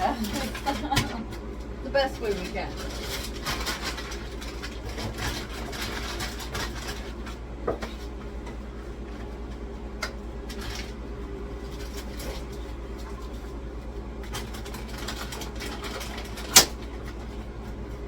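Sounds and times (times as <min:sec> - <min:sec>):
groceries knocking and clattering: 0:00.0 - 0:18.0
steady low hum: 0:00.0 - 0:18.0.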